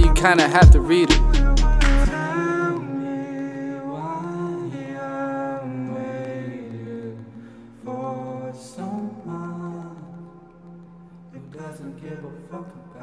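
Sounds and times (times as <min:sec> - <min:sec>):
wordless sung melody: 0:00.0 - 0:13.0.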